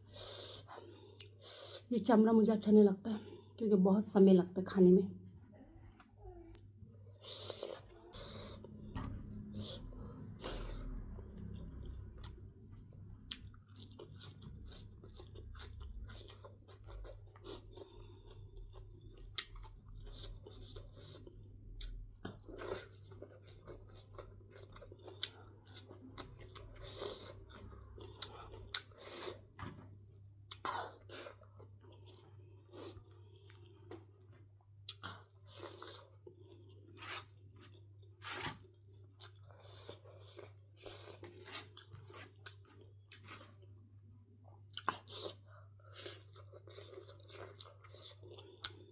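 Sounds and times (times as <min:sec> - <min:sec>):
person chewing with crunches: 0:05.9 - 0:48.9.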